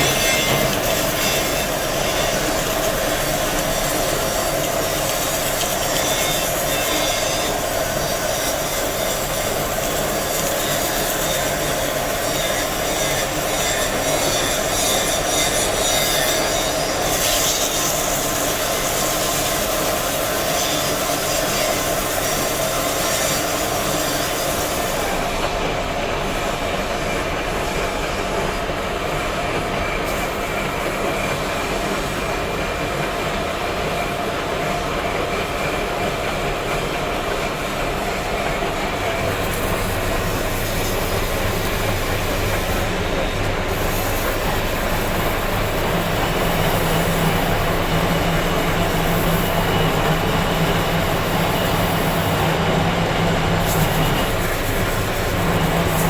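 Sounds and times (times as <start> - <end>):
power tool grinding stone: 0.0 - 28.8, 38.8 - 56.0.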